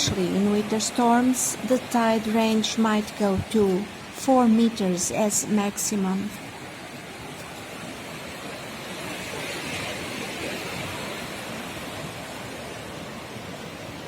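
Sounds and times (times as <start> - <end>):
waves washing onto sandy beach: 0.0 - 14.0.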